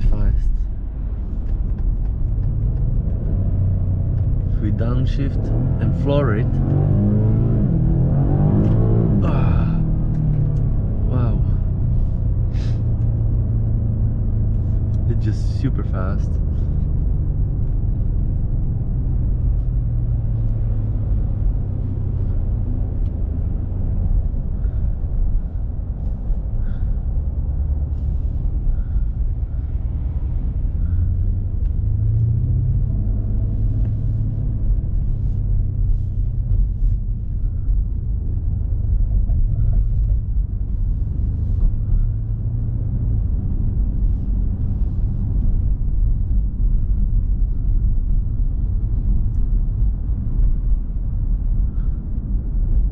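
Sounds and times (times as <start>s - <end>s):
car engine rumbling: 0.0s - 52.9s
tyre and road noise: 0.0s - 52.9s.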